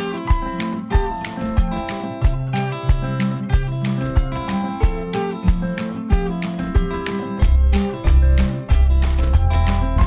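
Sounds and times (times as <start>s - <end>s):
guitar over steady beat: 0.0s - 10.0s.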